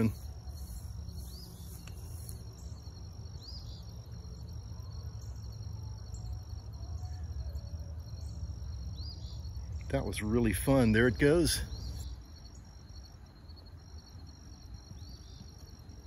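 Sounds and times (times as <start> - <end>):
crickets trilling: 0.0 - 16.0
low outdoor rumble: 0.0 - 16.0.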